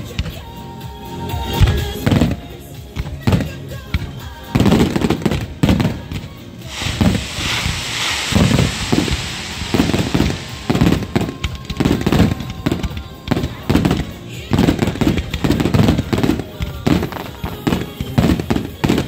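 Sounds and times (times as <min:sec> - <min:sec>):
fireworks crackling hiss: 0:00.0 - 0:19.0
fireworks booming: 0:03.0 - 0:19.0.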